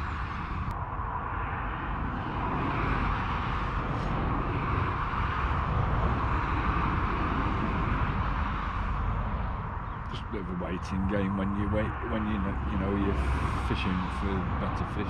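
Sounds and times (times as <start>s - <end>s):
low unsteady rumble: 0.0s - 15.0s.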